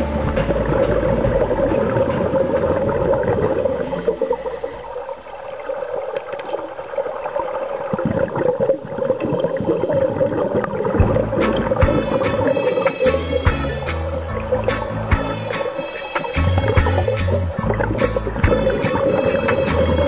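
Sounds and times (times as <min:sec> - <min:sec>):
underwater bubbles gurgling: 0:00.0 - 0:20.0.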